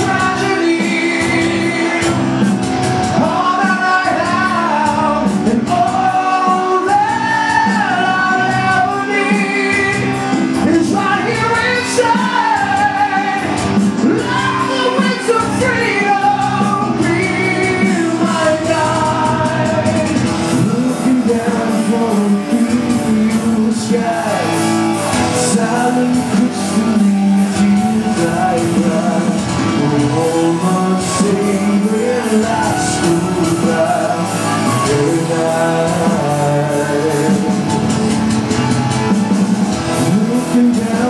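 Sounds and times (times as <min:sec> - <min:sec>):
heavy metal band playing: 0:00.0 - 0:41.0
man singing: 0:00.0 - 0:41.0.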